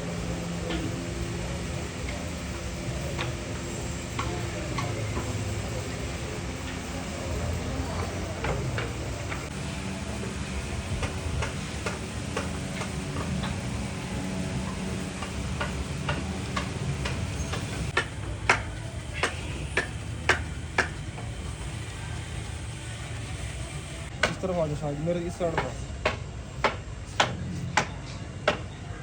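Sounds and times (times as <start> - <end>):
steady low hum: 0.0 - 28.4.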